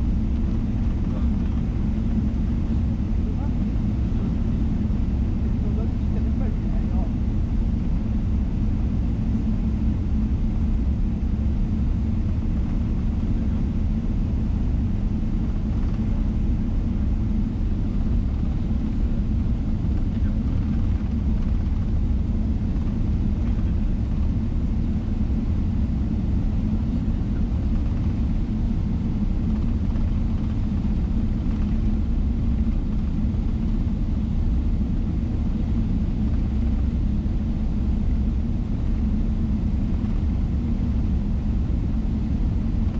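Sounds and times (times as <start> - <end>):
airplane engines rumbling in cabin: 0.0 - 42.9.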